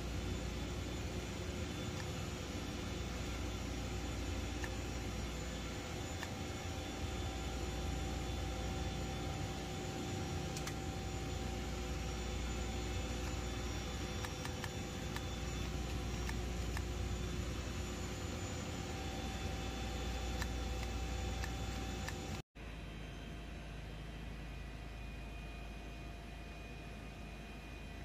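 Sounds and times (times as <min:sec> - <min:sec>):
machine hum and hiss: 0:00.0 - 0:23.1
faint steady tones: 0:00.0 - 0:28.0.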